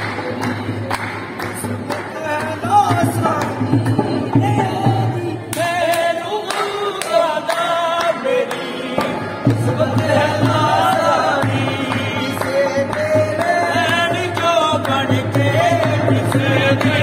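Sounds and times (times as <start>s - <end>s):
hand claps: 0.0s - 3.6s, 5.5s - 9.3s, 9.9s - 17.0s
harmonium: 0.0s - 17.0s
men singing: 1.4s - 17.0s.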